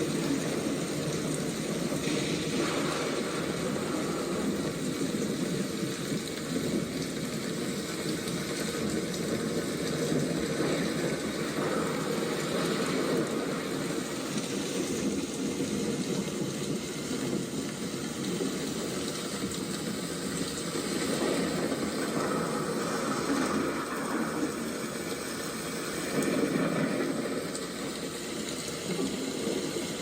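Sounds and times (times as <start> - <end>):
heavy rain: 0.0 - 30.0
low rumble of thunder: 0.0 - 30.0.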